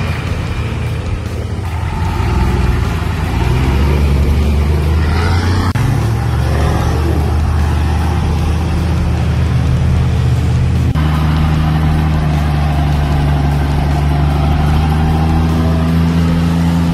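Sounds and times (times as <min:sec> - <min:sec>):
vehicle engine droning: 0:00.0 - 0:16.9.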